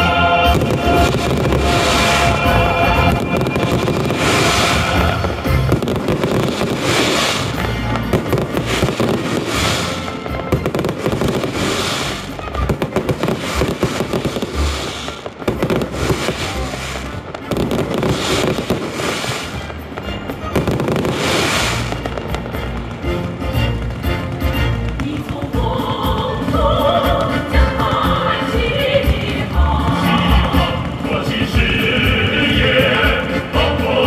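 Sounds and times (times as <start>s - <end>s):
fireworks bangs and crackling: 0.0s - 34.0s
fireworks hissing: 0.0s - 34.0s
music playing: 0.0s - 34.0s.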